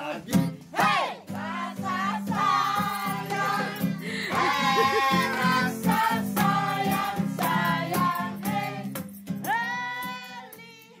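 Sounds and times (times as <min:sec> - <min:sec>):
music with singing: 0:00.3 - 0:11.0.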